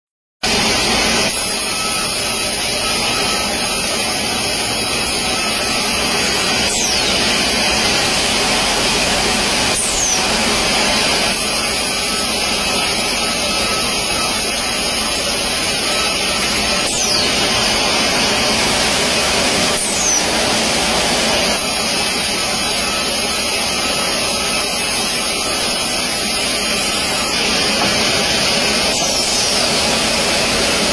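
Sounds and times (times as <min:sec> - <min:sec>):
band saw whirring: 0:00.4 - 0:30.9
high sliding squeals: 0:00.5 - 0:30.9.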